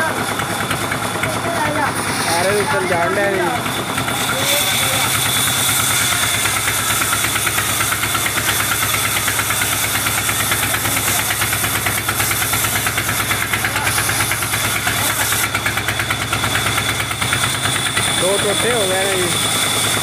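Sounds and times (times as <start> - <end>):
band saw cutting log: 0.0 - 20.0.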